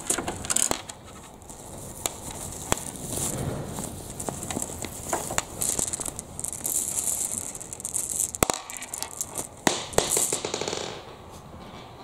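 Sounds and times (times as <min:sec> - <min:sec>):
marbles rattling and clicking: 0:00.0 - 0:00.9, 0:01.5 - 0:11.0
foil fabric pouch crinkling: 0:00.0 - 0:09.6.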